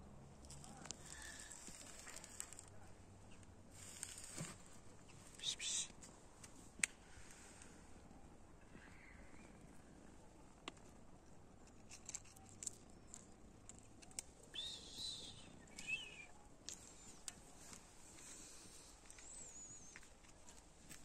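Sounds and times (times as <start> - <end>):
rustles of dry leaves and twigs: 0.2 - 8.0, 8.6 - 21.0.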